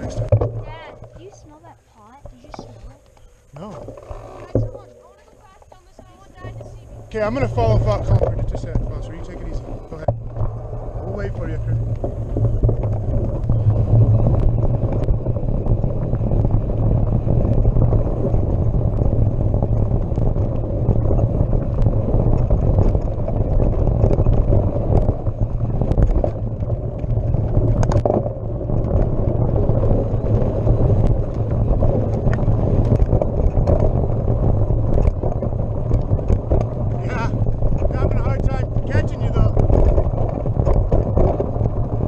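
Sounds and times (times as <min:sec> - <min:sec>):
bike clicks and rattles: 0:00.0 - 0:42.0
wind and trail rumble: 0:00.0 - 0:42.0.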